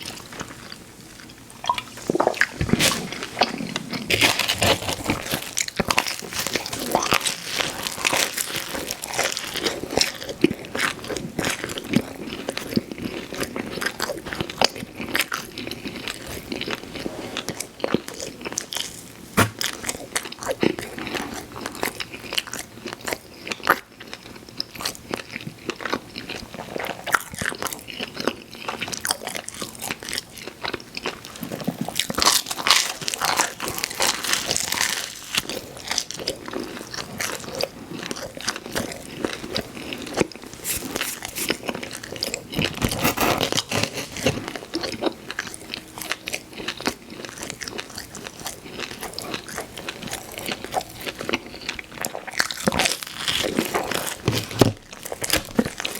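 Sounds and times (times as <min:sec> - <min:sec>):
chewing crunchy pizza crust: 0:00.0 - 0:55.9.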